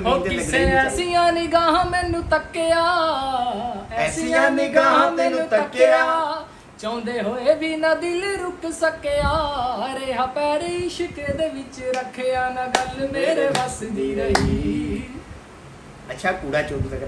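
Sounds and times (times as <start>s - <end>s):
man singing unaccompanied: 0.0s - 15.3s.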